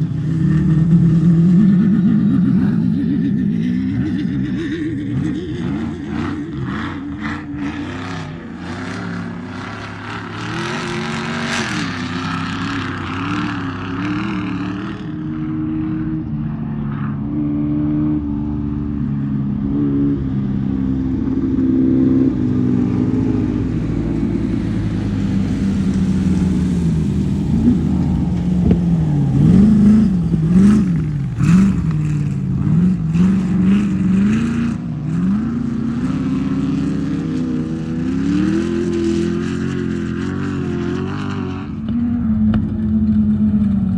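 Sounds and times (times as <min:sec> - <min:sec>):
race vehicle engine revving: 0:00.0 - 0:43.9.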